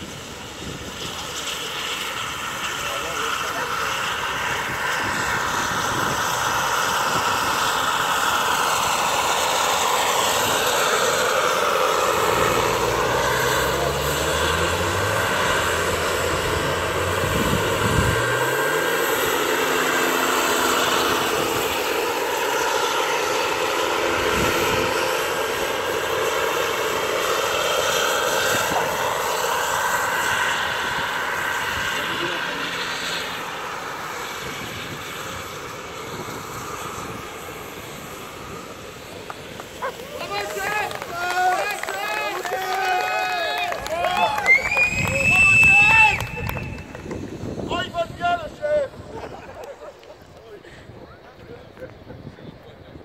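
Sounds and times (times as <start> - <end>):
model helicopter engine and rotor whine: 0.0 - 53.0.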